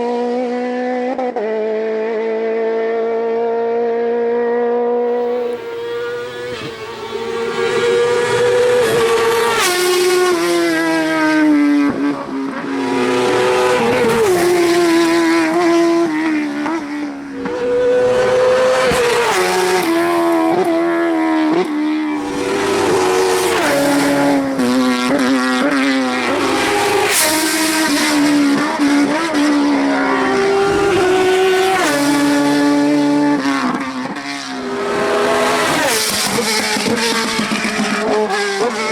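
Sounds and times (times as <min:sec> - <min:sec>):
racing car engine revving: 0:00.0 - 0:38.9.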